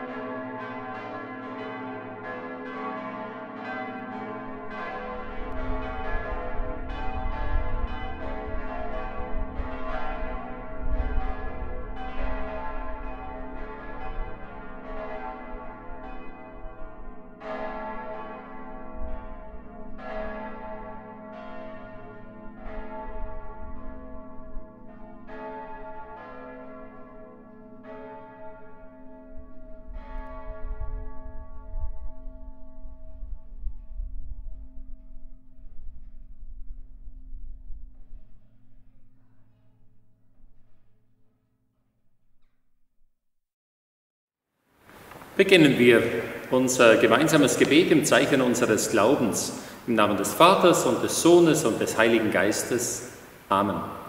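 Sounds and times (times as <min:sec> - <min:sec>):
church bells pealing: 0:00.0 - 0:35.2, 0:45.4 - 0:54.0.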